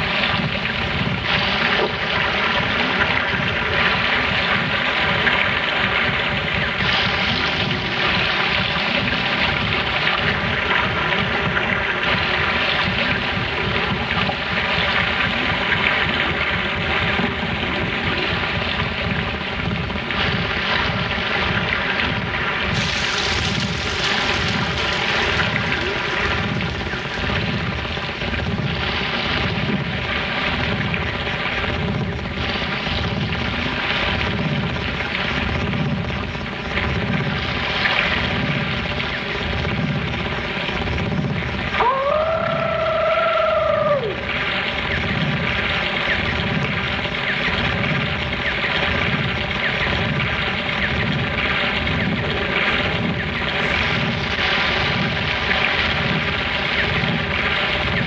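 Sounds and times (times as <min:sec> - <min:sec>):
pulsing rumbling noise: 0:00.0 - 0:58.0
steady held drone tones: 0:00.0 - 0:58.0.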